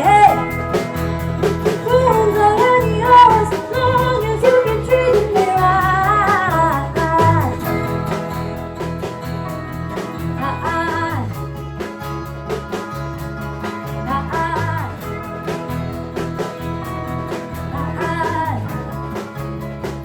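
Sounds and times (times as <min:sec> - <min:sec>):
band playing country rock: 0:00.0 - 0:20.0.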